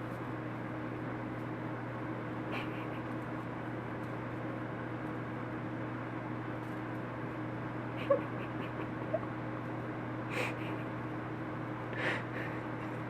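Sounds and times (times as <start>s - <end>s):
heater vent air rushing: 0.0s - 13.0s.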